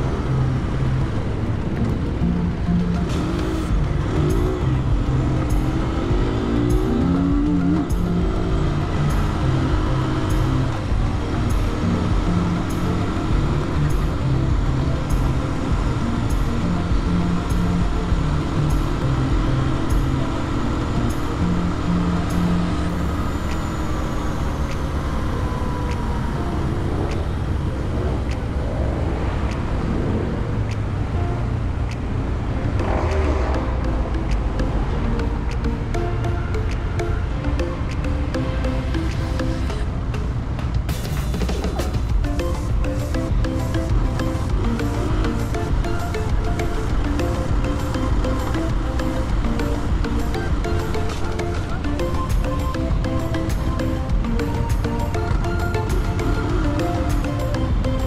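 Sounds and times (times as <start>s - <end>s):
background music with bass line: 0.0s - 58.0s
motorcycle running: 0.0s - 58.0s
riding noise: 0.0s - 58.0s
road and wind noise: 0.0s - 58.0s.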